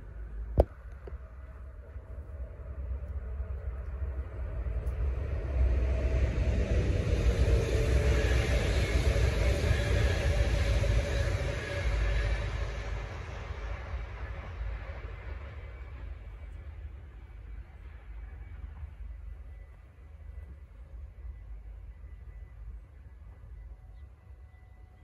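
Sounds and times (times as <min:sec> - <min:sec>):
faint steady whine: 0:00.0 - 0:25.0
train rumbling past: 0:00.0 - 0:25.0.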